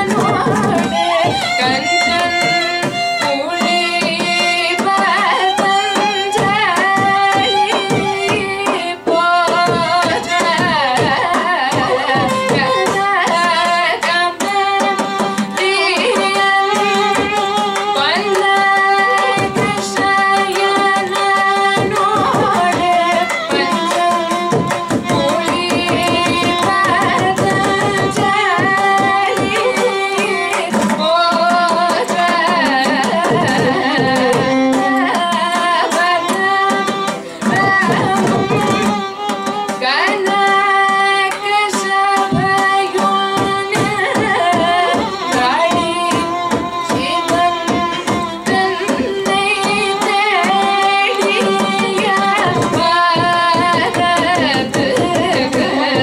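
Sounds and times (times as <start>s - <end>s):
woman singing ornamented phrases: 0.0s - 39.1s, 39.7s - 56.0s
hand drum strokes: 0.0s - 56.0s
violin: 0.0s - 56.0s.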